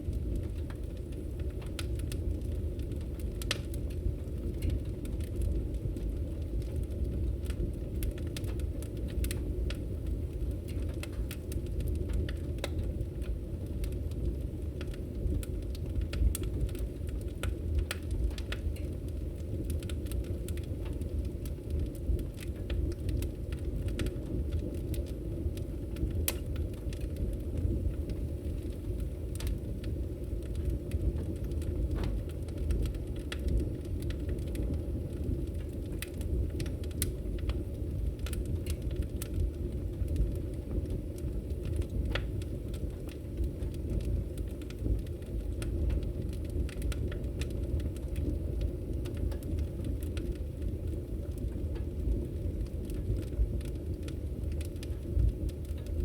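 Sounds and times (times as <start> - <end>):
fire popping and snapping: 0.0 - 56.0
low rumble of fire: 0.0 - 56.0
wood fire crackling: 0.0 - 56.0.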